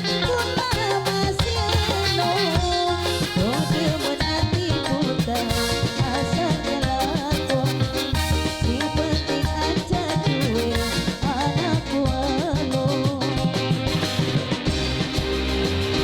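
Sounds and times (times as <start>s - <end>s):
busy drum beat: 0.0s - 16.0s.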